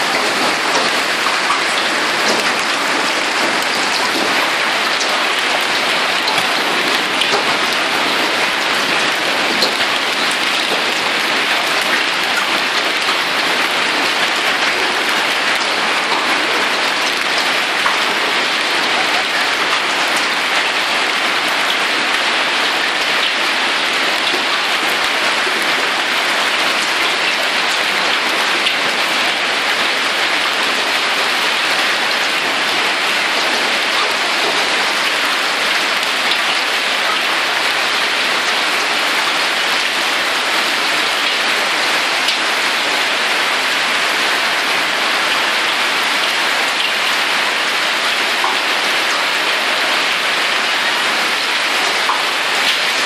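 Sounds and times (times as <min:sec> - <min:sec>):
hail and rain on paving stones: 0:00.0 - 0:53.0.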